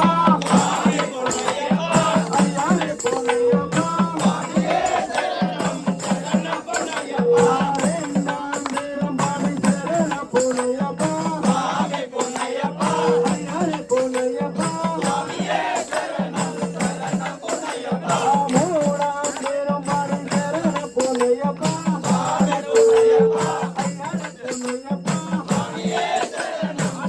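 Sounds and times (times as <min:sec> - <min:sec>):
devotional singing: 0:00.0 - 0:27.0
rattling hand percussion: 0:00.0 - 0:27.0.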